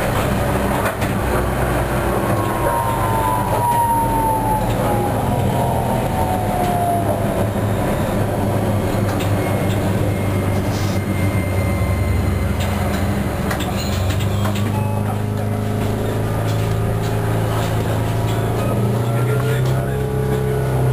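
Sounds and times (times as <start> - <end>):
tram hum and rumble: 0.0 - 20.9
falling whine: 0.1 - 20.9.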